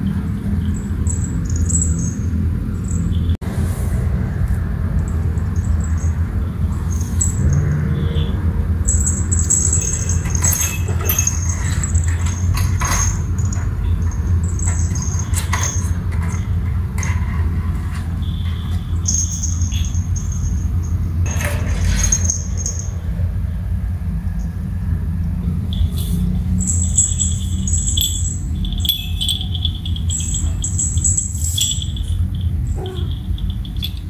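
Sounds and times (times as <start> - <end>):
small bells jingling: 0.4 - 3.4, 5.0 - 23.2, 25.6 - 34.0.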